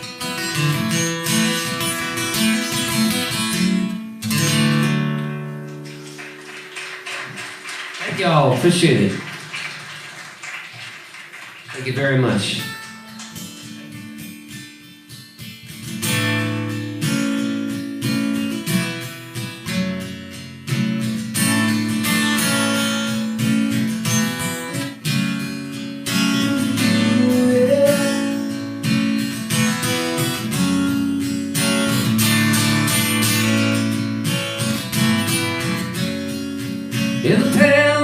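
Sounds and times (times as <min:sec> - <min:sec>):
acoustic guitar chords: 0:00.0 - 0:10.4, 0:11.9 - 0:38.0.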